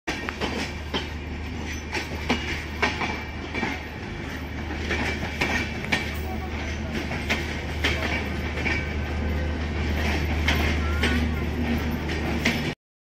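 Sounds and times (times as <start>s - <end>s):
train wheels clacking over rail joints: 0.1s - 12.8s.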